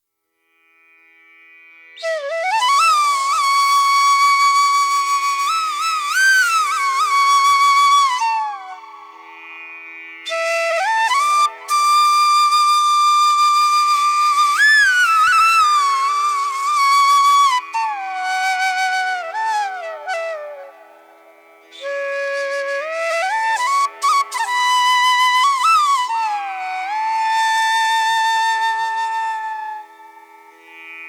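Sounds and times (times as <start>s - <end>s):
flute melody: 2.0s - 9.2s, 10.3s - 30.4s.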